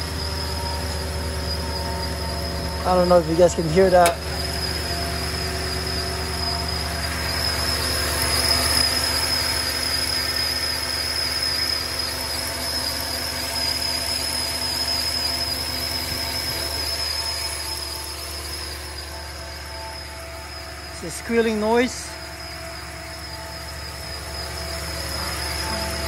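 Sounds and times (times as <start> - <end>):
drive belt squealing: 0.0 - 26.0
truck engine running: 0.0 - 26.0.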